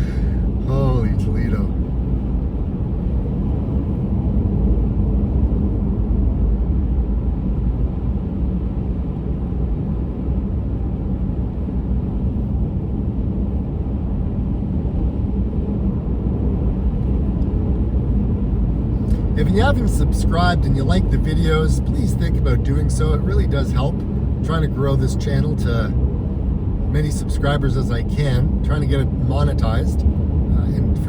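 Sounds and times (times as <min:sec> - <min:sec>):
car road rumble from inside: 0:00.0 - 0:31.0.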